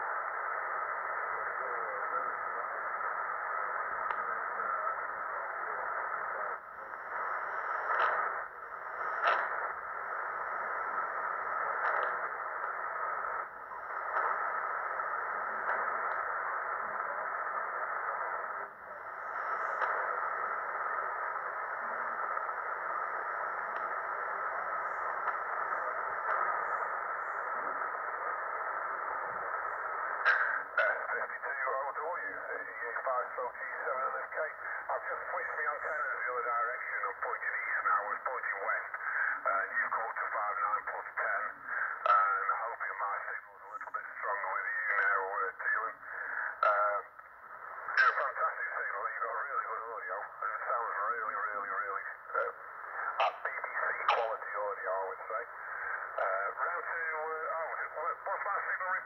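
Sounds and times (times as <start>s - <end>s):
radio static hiss: 0.0s - 59.0s
short radio crackles: 0.0s - 59.0s.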